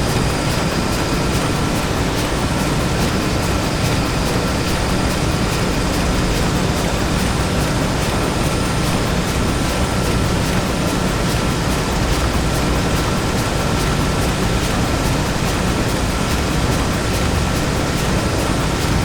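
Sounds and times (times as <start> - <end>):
low rumble of machines: 0.0 - 19.0.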